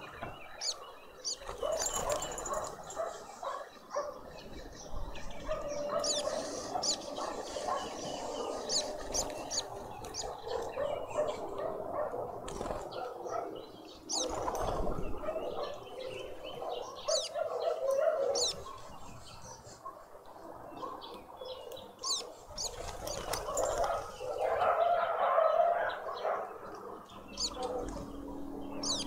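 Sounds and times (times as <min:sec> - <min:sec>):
birds chirping sharply: 0:00.0 - 0:29.0
lower bird chatter: 0:00.0 - 0:29.0.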